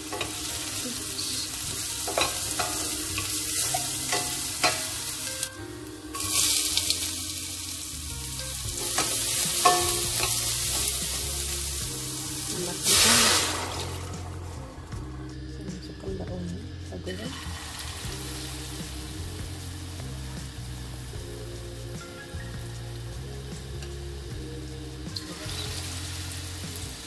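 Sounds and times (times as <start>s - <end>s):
shallots sizzling in oil: 0.0s - 27.0s.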